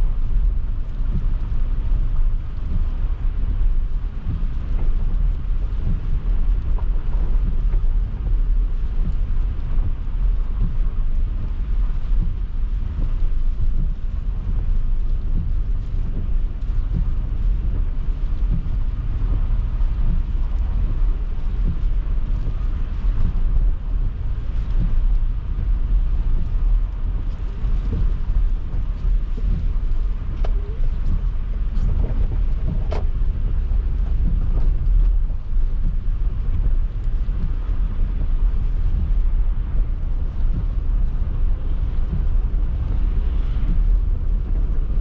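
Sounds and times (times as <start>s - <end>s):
car driving on snow: 0.0s - 45.0s.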